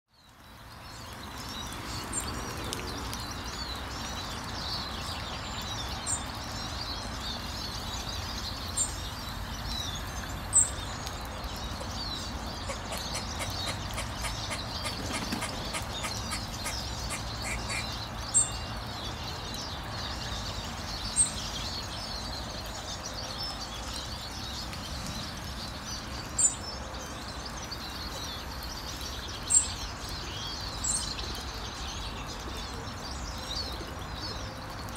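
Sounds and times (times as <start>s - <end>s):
birdsong: 0.1s - 34.9s.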